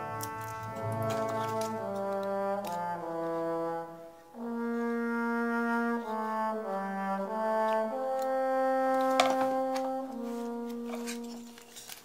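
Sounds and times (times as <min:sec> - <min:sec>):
slow melody of long held notes: 0:00.0 - 0:12.0.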